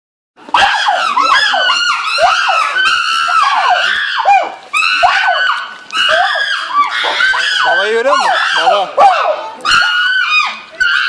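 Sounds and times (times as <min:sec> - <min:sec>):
monkeys shrieking: 0:00.5 - 0:11.0.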